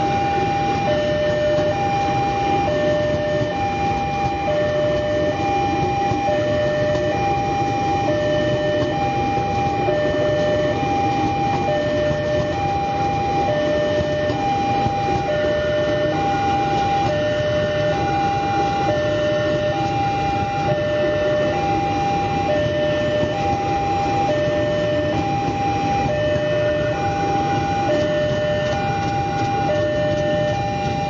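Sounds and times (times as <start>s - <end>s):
electric train rumbling past: 0.0s - 31.0s
two-tone crossing alarm chime: 0.0s - 31.0s.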